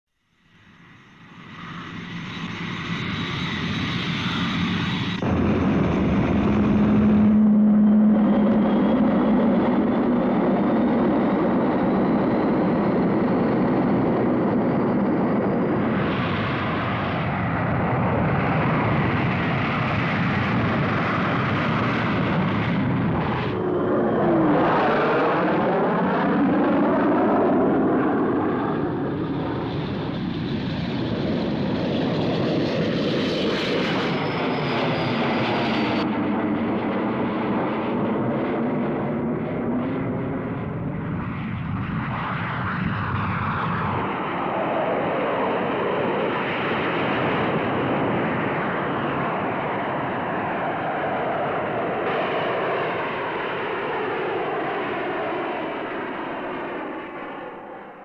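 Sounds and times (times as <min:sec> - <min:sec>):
jet engines roaring: 0:00.5 - 0:58.0
jet passing by: 0:00.6 - 0:58.0.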